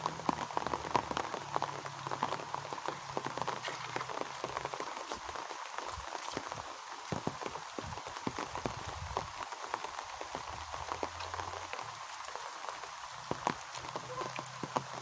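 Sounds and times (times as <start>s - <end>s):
rain hissing: 0.0s - 15.0s
raindrops ticking on surfaces: 0.0s - 15.0s.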